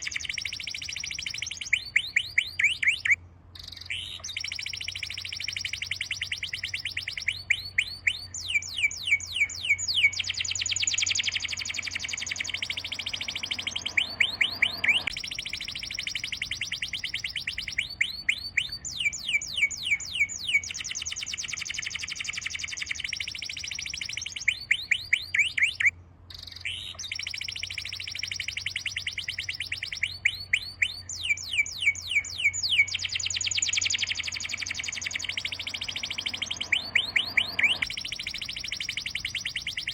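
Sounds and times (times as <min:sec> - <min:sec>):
downward-sweeping whistled bird notes: 0:00.0 - 0:39.9
songbirds chirping and trilling: 0:00.0 - 0:39.9.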